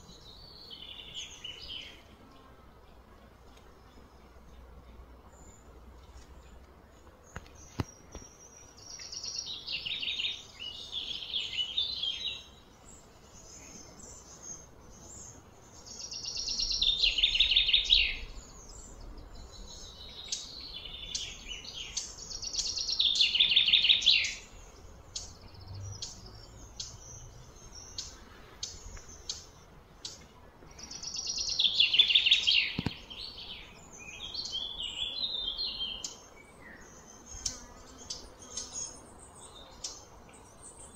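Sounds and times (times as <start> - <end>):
bird singing trilled phrases: 7.5 - 40.9.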